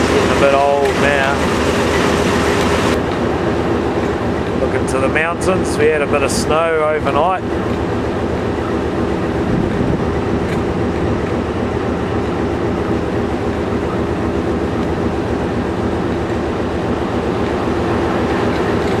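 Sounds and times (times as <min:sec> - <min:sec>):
locomotive idling drone: 0:00.0 - 0:19.0.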